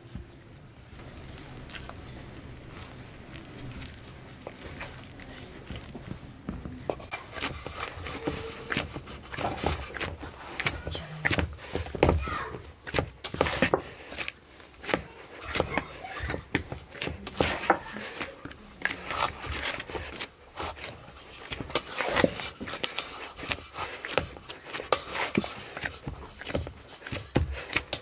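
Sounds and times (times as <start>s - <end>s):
hands slapping dough: 2.6s - 28.0s.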